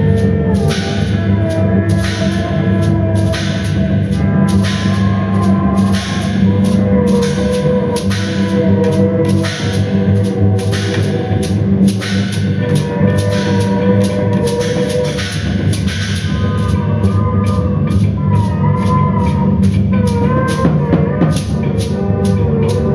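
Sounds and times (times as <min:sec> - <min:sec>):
drum and cymbal strikes: 0:00.0 - 0:22.9
live band music: 0:00.0 - 0:22.9.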